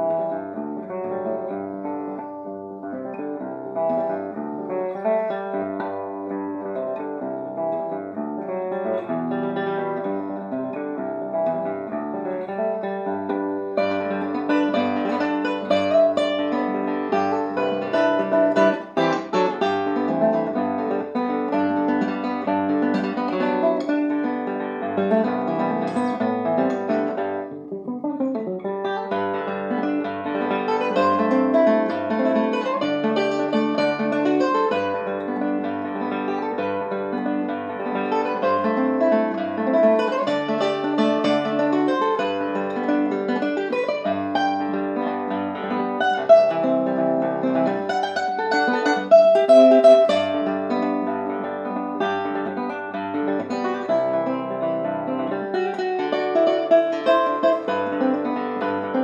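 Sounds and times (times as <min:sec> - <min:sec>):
fingerstyle classical guitar: 0:00.0 - 0:59.0.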